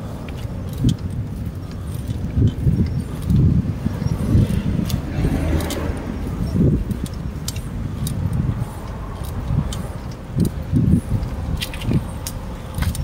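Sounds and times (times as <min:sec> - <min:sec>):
bicycle rattling clicks: 0:00.0 - 0:13.0
road traffic: 0:00.0 - 0:13.0
wind buffeting microphone: 0:00.0 - 0:13.0.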